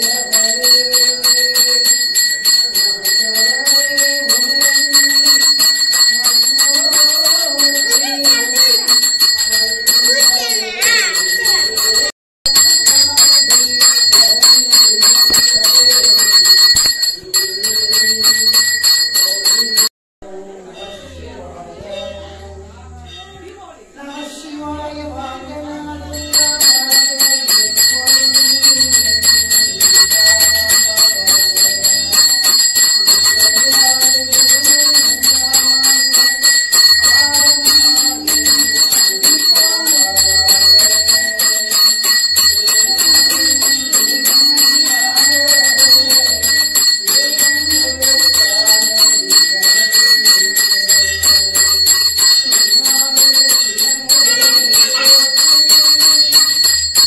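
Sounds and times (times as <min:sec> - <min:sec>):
temple bell ringing rapidly: 0:00.0 - 0:19.9, 0:26.1 - 0:57.0.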